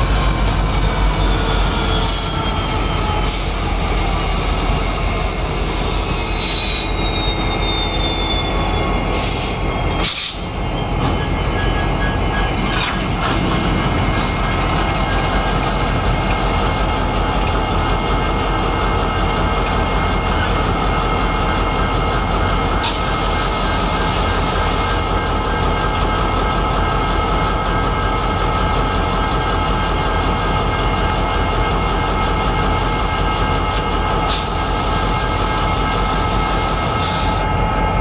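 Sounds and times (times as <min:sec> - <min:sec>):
diesel locomotives idling: 0:00.0 - 0:38.0.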